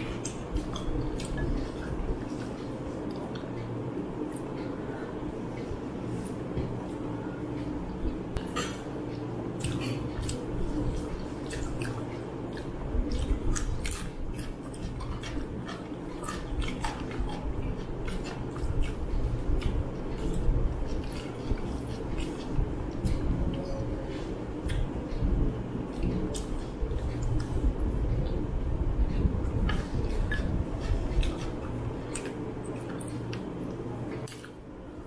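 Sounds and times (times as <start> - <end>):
chewing: 0.0 - 35.0
fingers mixing food on plates: 0.0 - 35.0
steady low hum: 0.0 - 35.0.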